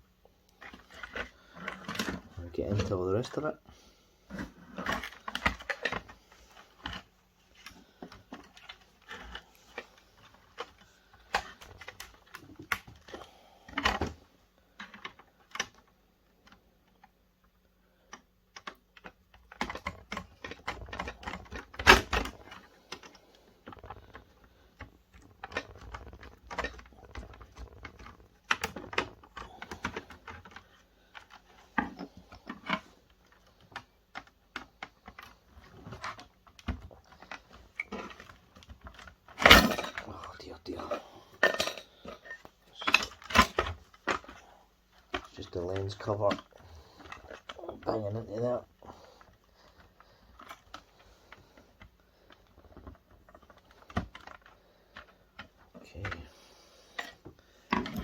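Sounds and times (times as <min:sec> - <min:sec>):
plastic parts clicking and tapping: 0:00.5 - 0:03.4, 0:04.3 - 0:56.3, 0:56.9 - 0:58.0.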